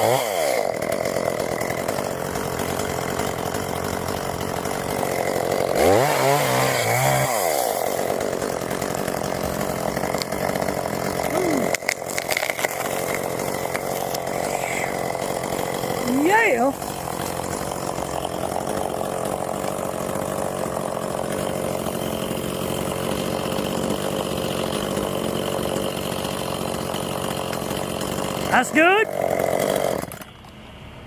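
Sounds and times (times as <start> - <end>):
chainsaw running and revving: 0.0 - 30.3.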